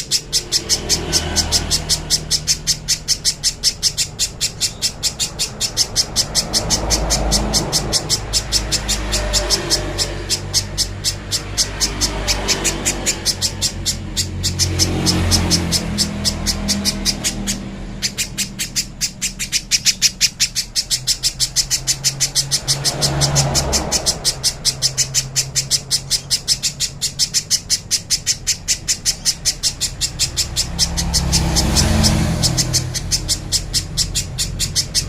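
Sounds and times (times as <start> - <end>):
bird calling in high chips: 0.0 - 35.0.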